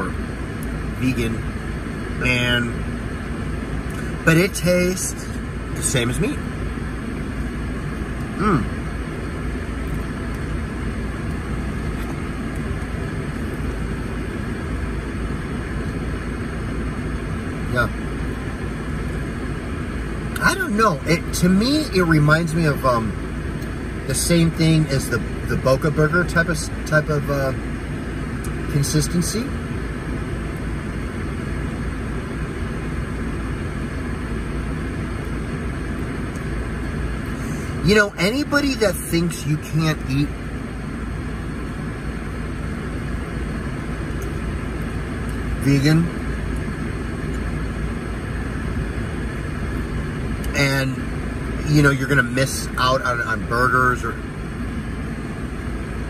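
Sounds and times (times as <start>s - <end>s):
car cabin engine rumble: 0.0s - 56.0s.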